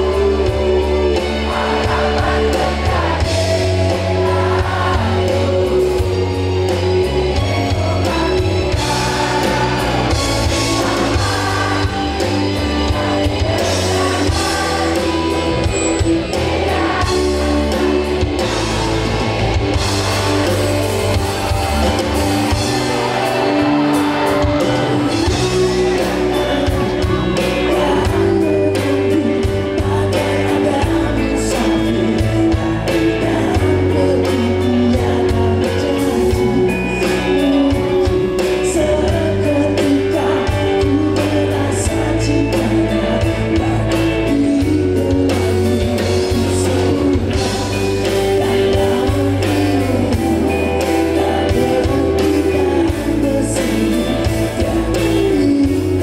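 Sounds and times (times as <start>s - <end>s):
live rock band with singer: 0.0s - 56.0s.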